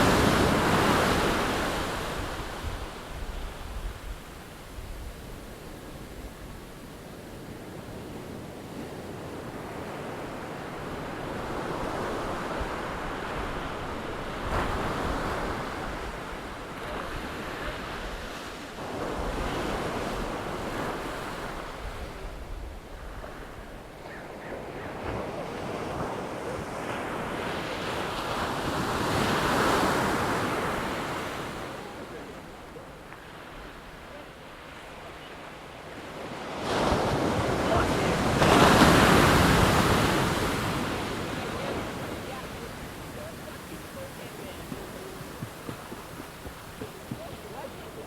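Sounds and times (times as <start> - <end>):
waves washing in: 0.0 - 48.0.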